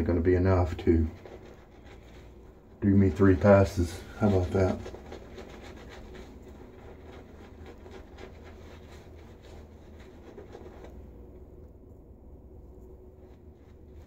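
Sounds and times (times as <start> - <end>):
shaving brush scrubbing lather: 0.0 - 11.3.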